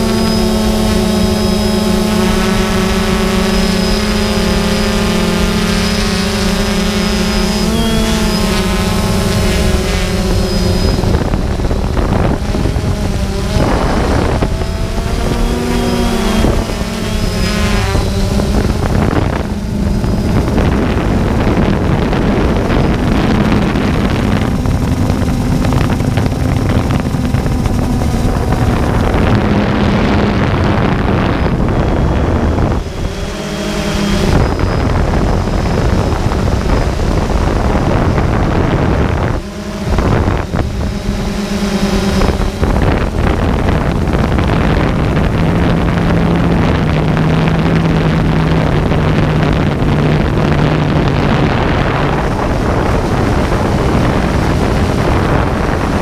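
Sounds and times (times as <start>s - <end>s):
drone motors humming: 0.0s - 56.0s
wind buffeting microphone: 0.0s - 56.0s.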